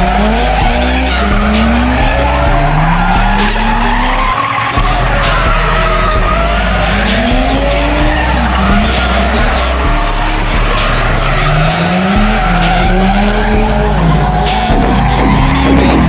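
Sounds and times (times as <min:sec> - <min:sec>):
car engine revving: 0:00.0 - 0:16.0
music with heavy bass: 0:00.0 - 0:16.0
tyres skidding: 0:00.0 - 0:16.0.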